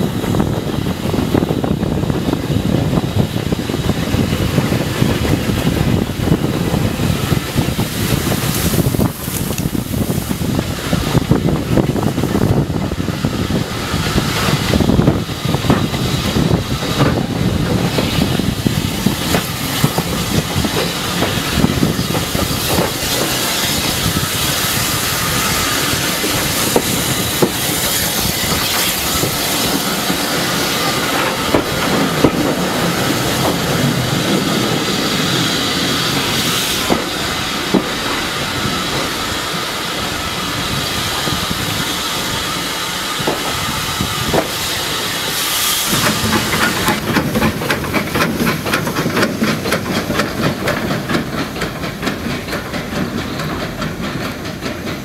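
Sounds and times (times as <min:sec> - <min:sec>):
train coaches rumbling: 0:00.0 - 0:55.0
wheels clicking over rail joints: 0:00.4 - 0:40.2, 0:45.9 - 0:55.0.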